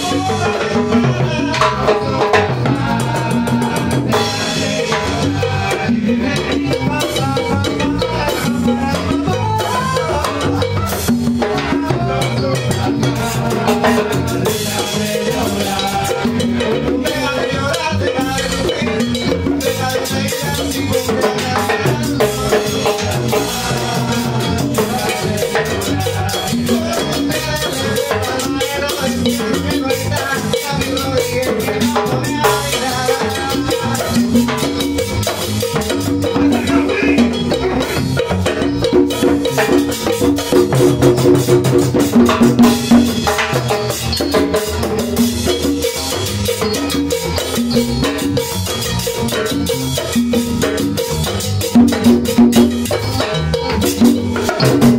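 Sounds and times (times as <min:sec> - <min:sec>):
electric bass: 0:00.0 - 0:54.9
electric guitar: 0:00.0 - 0:54.9
hand percussion: 0:00.0 - 0:54.9.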